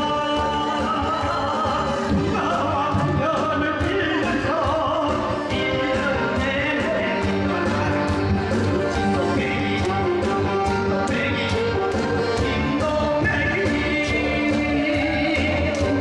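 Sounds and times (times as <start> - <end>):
instrumental accompaniment with beat: 0.0 - 16.0
man singing into microphone: 0.0 - 16.0.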